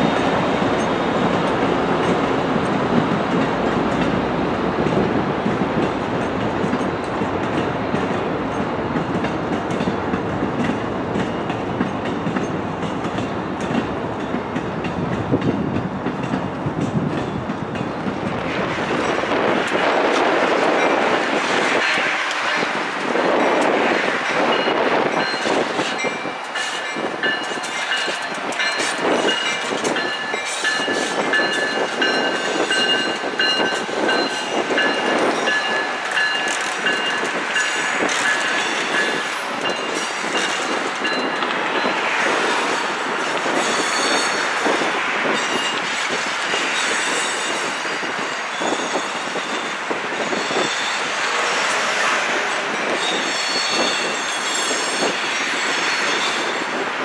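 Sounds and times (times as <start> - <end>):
commuter train rumbling by: 0.0 - 57.0
train wheels clicking: 5.8 - 56.8.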